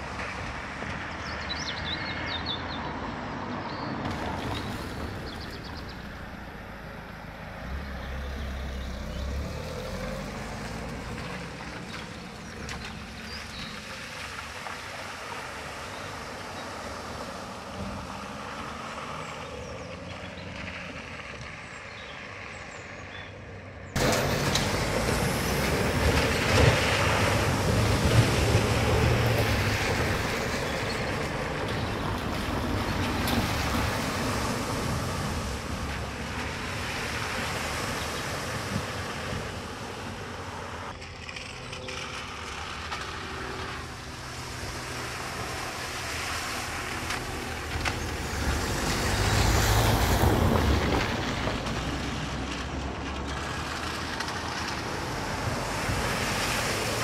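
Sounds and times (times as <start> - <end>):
vehicle engines running: 3.4 - 57.0
wet tyres splashing water: 3.9 - 22.5, 24.0 - 57.0.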